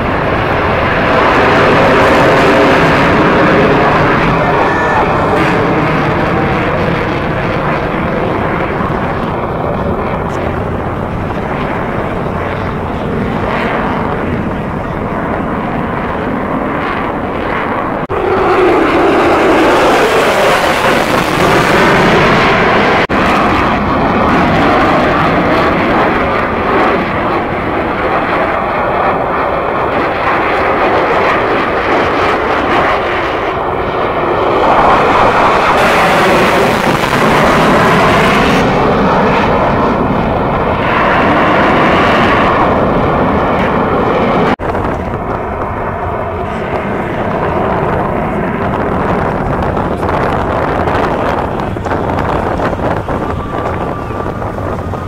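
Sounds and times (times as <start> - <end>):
jet engine roar overhead: 0.0 - 55.0.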